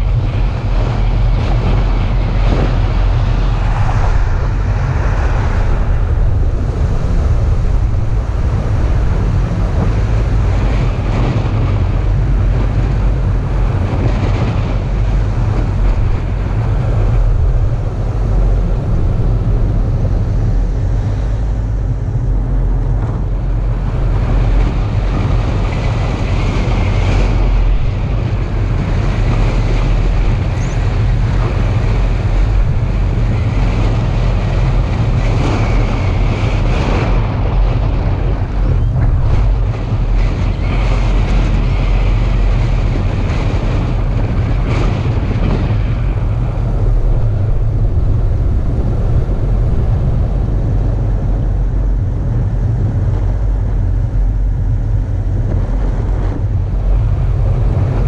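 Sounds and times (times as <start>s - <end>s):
road and tyre noise: 0.0s - 58.0s
wind buffeting camera: 0.0s - 58.0s.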